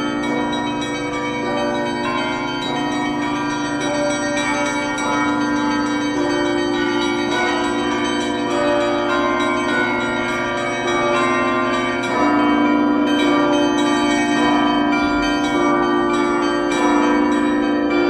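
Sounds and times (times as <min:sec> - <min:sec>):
church bells ringing: 0:00.0 - 0:18.0.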